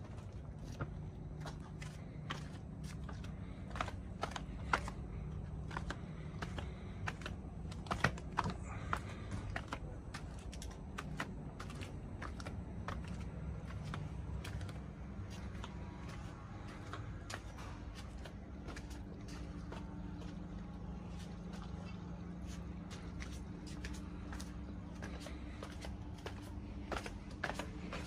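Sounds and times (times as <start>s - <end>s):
footsteps on stone paving: 0.0s - 28.0s
steady low hum: 0.0s - 28.0s.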